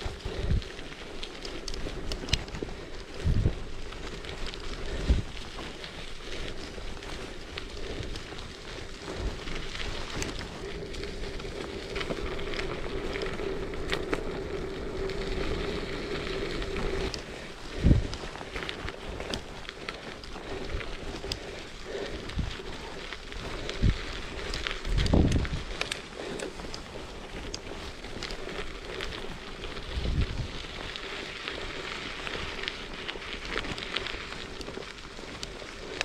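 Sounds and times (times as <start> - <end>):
small crackles and ticks: 0.0 - 36.0
steady outdoor hiss: 0.0 - 36.0
wind buffeting microphone: 0.0 - 36.0.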